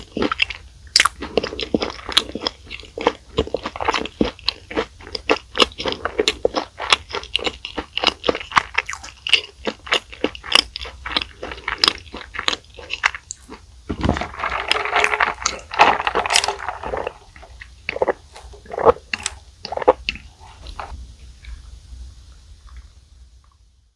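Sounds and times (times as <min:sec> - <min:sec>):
chewing crunchy food: 0:00.0 - 0:21.8.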